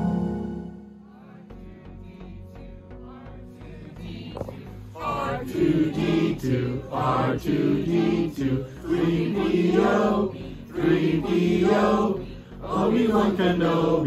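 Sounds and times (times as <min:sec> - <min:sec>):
group singing a chant-like song: 0:00.9 - 0:14.0.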